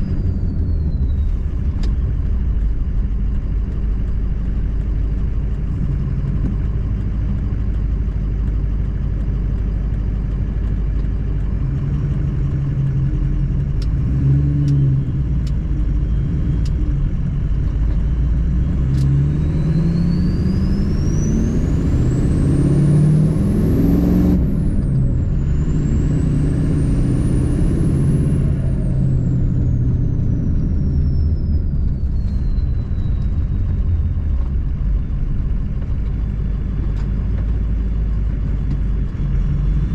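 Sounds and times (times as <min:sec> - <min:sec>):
diesel truck engine: 0:00.0 - 0:39.9.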